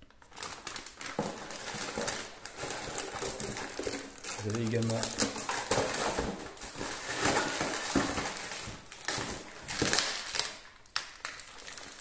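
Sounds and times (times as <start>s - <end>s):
plastic bag crinkling: 0.0s - 12.0s
cardboard box rustling: 0.4s - 10.0s.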